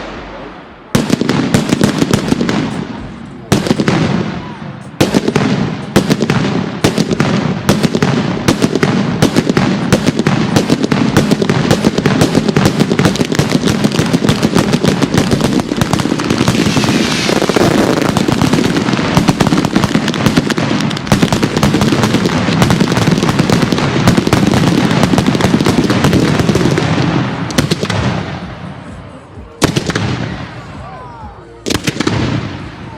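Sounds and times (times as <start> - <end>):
fireworks cracking and banging: 0.0 - 30.8, 31.6 - 32.9.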